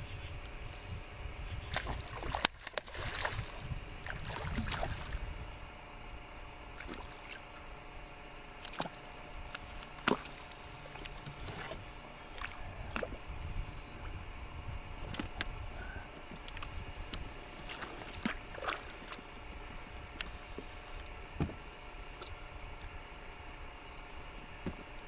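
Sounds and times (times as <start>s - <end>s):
cricket trill: 0.0s - 25.0s.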